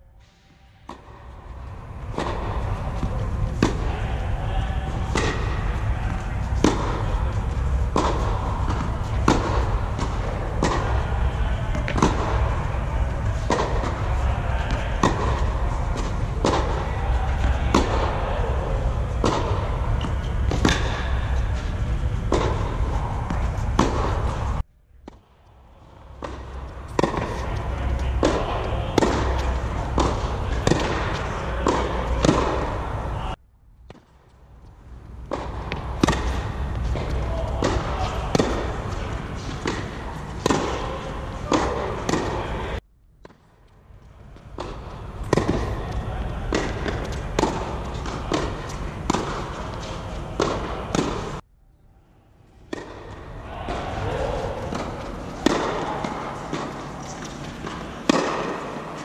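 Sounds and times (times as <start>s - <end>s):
low rumble: 0.0s - 55.5s
tennis ball hits and bounces: 0.9s - 4.2s, 4.9s - 25.2s, 26.0s - 33.1s, 35.2s - 43.5s, 44.4s - 51.4s, 52.7s - 59.0s.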